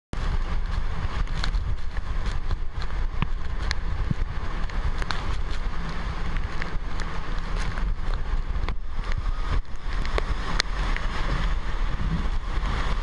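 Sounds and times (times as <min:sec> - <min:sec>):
strong wind buffeting microphone: 0:00.2 - 0:13.0.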